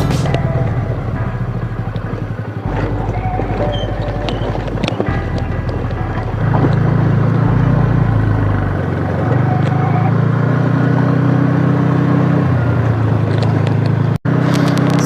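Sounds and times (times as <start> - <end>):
motor scooter engine running: 0.0 - 15.0.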